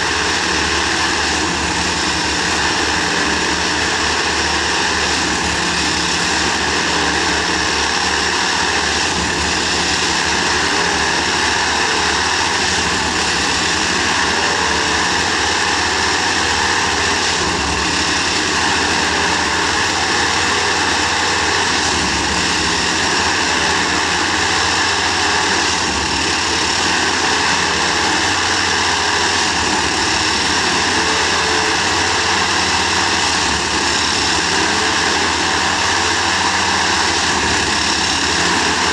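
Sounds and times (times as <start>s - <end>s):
tamping machine mechanical drone: 0.0s - 38.9s.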